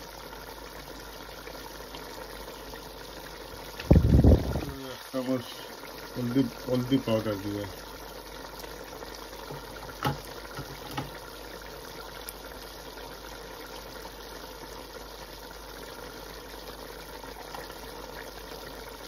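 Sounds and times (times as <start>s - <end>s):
stockpot bubbling: 0.0s - 19.0s.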